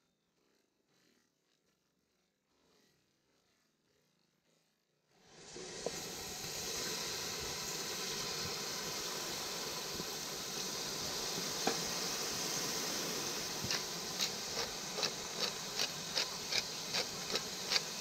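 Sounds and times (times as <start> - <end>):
steady hissing: 2.1 - 18.0.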